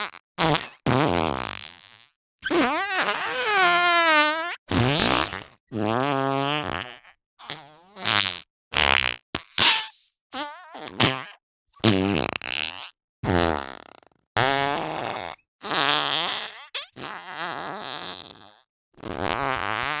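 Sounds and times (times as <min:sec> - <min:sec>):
fart putty noises: 0:00.0 - 0:20.0.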